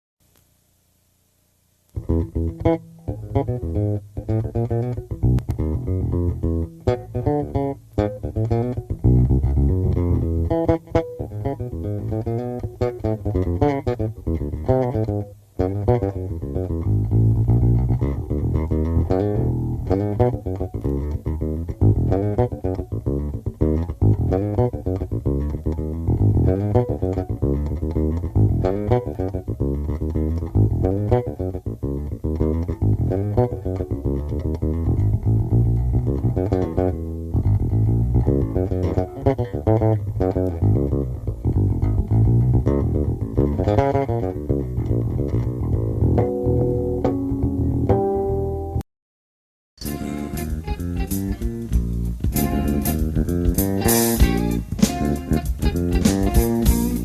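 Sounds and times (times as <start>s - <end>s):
electric bass guitar jam: 1.9s - 48.8s, 49.8s - 57.0s.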